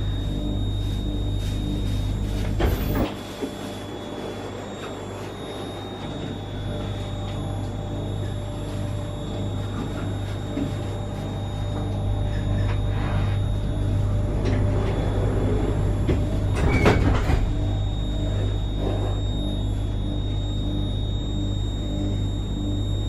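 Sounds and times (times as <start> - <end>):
electric train hum: 0.0 - 23.0.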